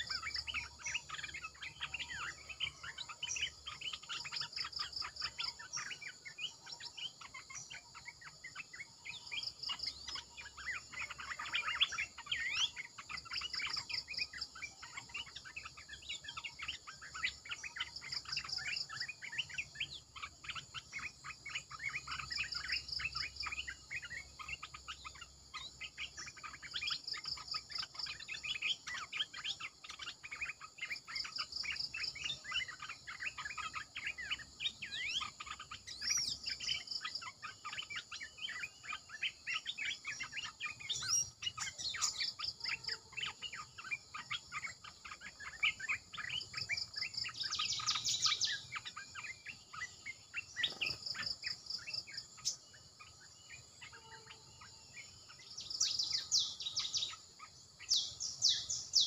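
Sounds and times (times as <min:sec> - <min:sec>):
bulbuls chattering chirps: 0:00.0 - 0:59.0.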